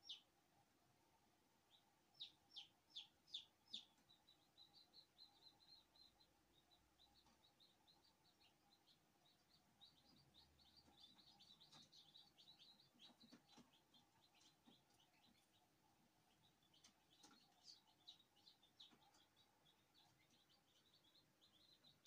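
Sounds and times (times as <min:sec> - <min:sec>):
chicks peeping softly: 0:00.0 - 0:22.0.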